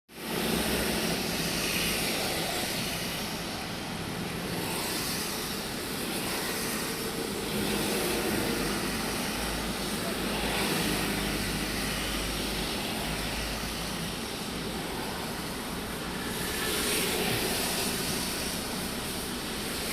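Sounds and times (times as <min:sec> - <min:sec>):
traffic on wet road: 0:00.1 - 0:19.9.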